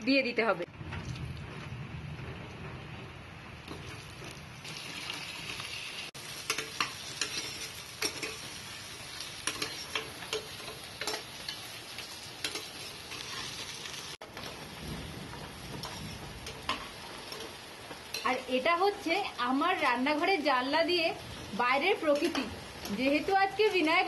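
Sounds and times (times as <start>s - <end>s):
pumpkin frying with crackles: 0.7s - 24.0s.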